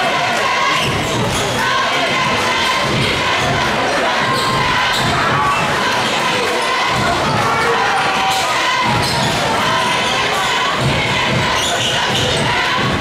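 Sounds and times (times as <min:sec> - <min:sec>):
crowd talking and shouting: 0:00.0 - 0:13.0.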